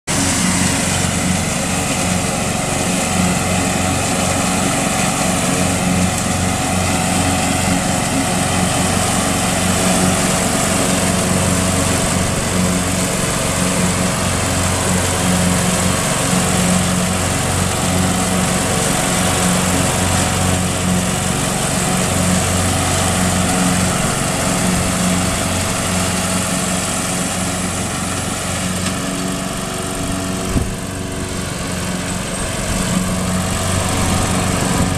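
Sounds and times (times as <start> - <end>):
riding lawn mower engine: 0.0 - 34.9.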